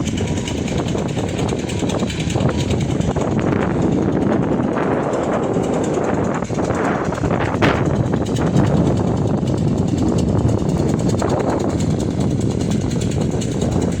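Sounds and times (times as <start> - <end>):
pump engine running: 0.0 - 14.0.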